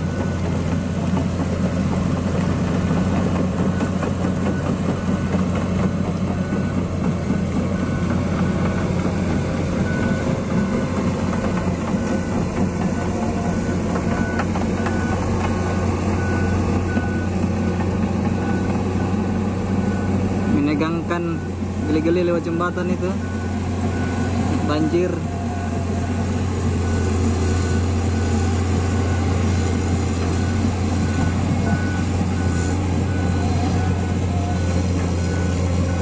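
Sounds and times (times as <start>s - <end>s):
diesel engine running: 0.0s - 36.0s
excavator tracks travelling: 0.0s - 36.0s.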